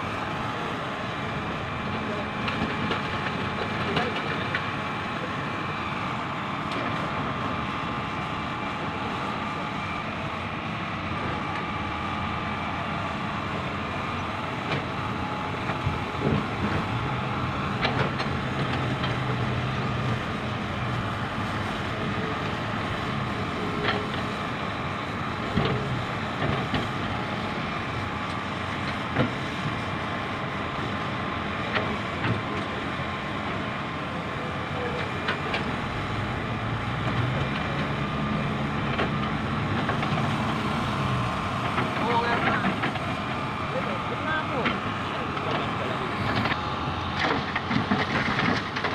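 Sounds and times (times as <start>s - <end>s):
excavator diesel engine working: 0.0s - 48.9s.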